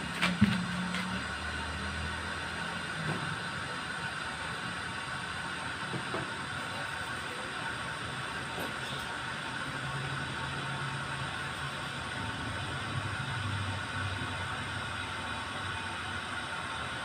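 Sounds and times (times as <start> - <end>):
water heater hissing and rumbling: 0.0 - 17.0.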